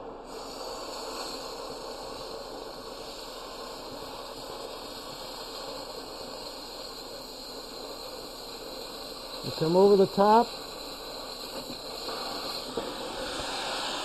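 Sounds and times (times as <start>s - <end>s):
cutting torch hissing: 0.0s - 14.0s.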